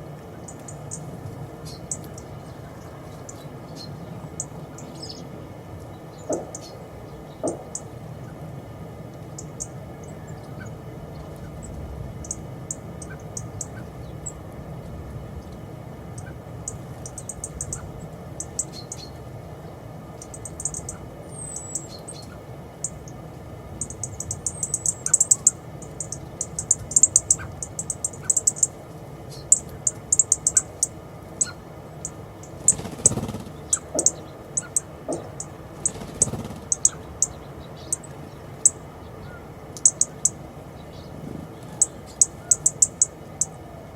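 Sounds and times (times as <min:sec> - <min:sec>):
low background rumble: 0:00.0 - 0:43.9
small birds chirping: 0:00.0 - 0:43.9.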